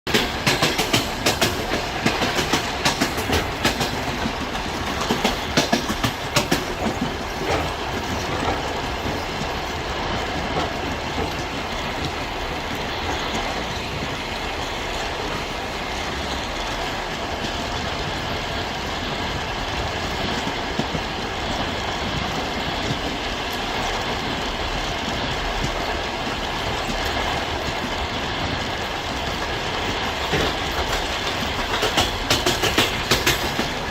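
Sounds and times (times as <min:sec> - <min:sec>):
train wheels clattering over joints: 0:00.1 - 0:33.9.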